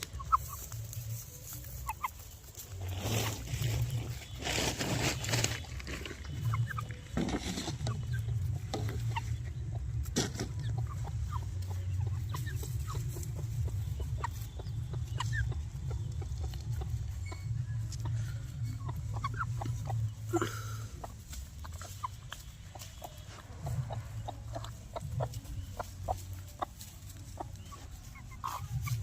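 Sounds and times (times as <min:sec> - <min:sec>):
chickens clucking: 0:00.0 - 0:29.0
steady low hum: 0:00.0 - 0:29.0.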